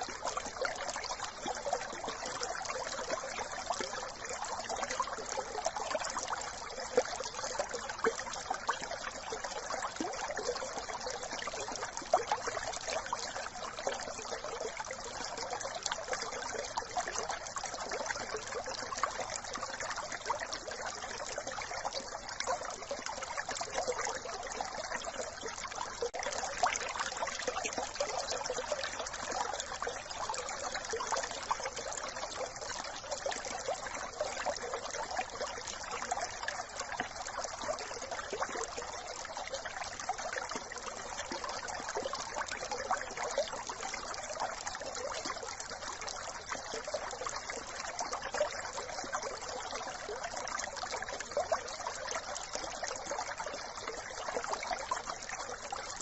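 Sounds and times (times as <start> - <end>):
brook trickling and babbling: 0.0 - 56.0.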